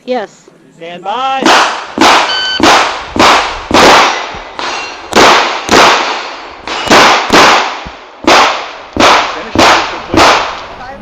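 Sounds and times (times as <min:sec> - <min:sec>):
pistol shots: 0:01.4 - 0:10.7.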